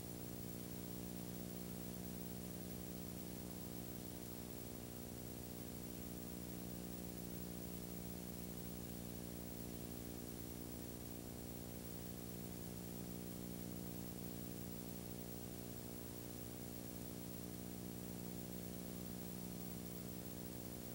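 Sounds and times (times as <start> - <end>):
electrical hum with buzzing: 0.0 - 20.9.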